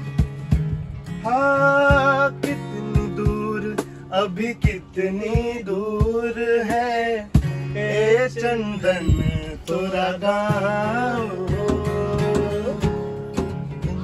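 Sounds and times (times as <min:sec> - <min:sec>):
acoustic guitar strumming: 0:00.0 - 0:14.0
man singing: 0:01.2 - 0:14.0.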